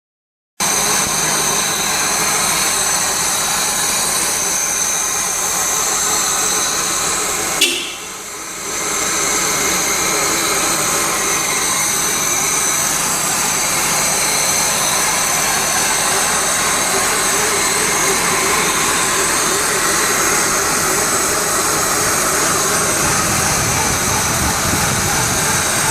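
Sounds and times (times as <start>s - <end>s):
car engine misfiring: 0.9s - 25.9s.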